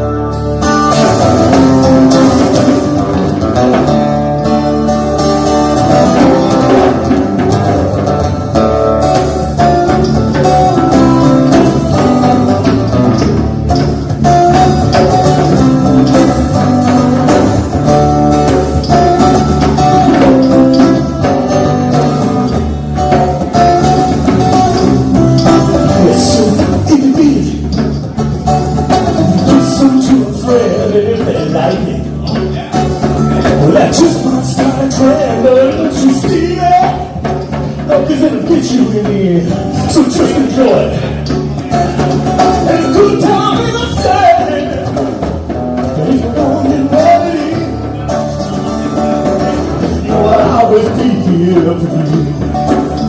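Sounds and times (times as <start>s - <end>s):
electric guitar: 0.0s - 53.0s
live band playing: 0.0s - 53.0s.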